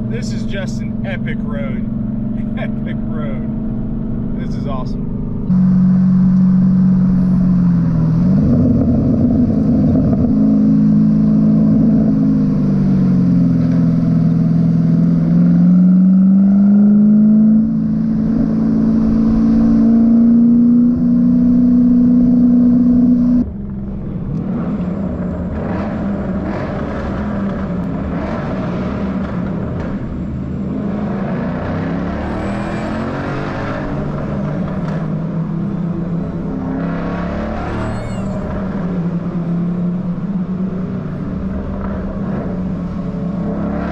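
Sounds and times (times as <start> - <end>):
car engine revving through loud exhaust: 0.0 - 43.9.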